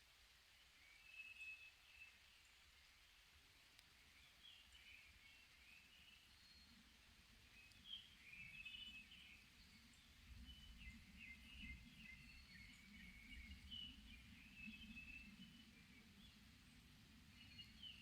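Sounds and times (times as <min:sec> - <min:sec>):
faint songbirds singing: 0:00.1 - 0:18.0.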